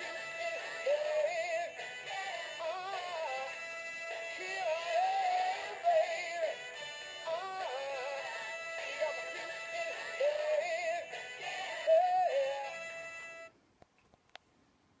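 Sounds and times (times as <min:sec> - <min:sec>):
person singing over music: 0:00.0 - 0:03.6, 0:04.2 - 0:12.9
toy playing a song: 0:00.0 - 0:13.5.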